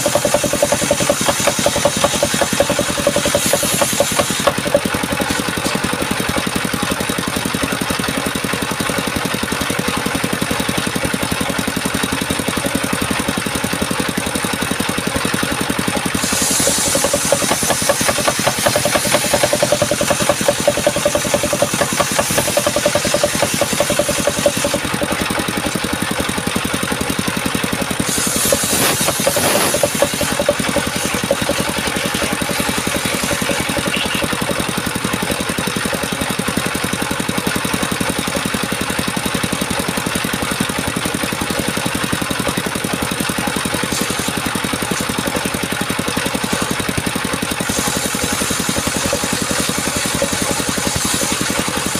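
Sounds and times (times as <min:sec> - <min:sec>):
chainsaw engine running: 0:00.0 - 0:51.9.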